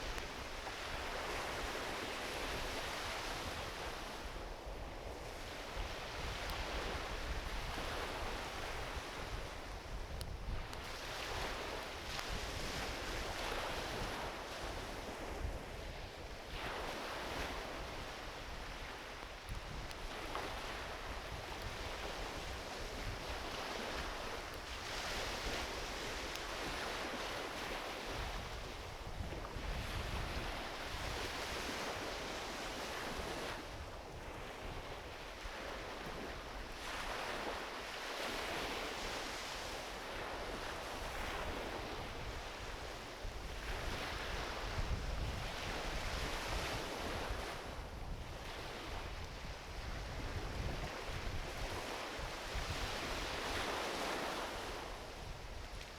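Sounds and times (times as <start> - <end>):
small waves washing onto beach: 0.0 - 55.9
wind rumble on microphone: 0.0 - 55.9.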